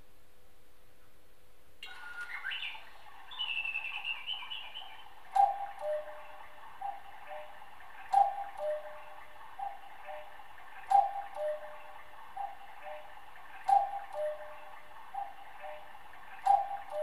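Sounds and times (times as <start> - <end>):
cuckoo clock calling: 1.8 - 17.0.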